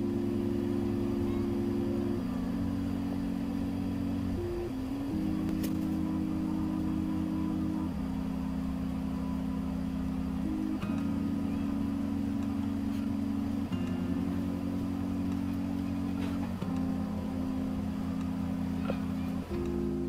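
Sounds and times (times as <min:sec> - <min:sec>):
chillhop music: 0:00.0 - 0:20.0.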